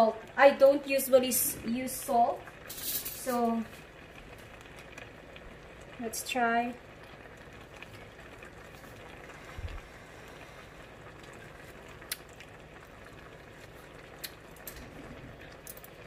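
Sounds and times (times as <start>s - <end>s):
pan simmering with bubbling hiss: 0.0s - 16.0s.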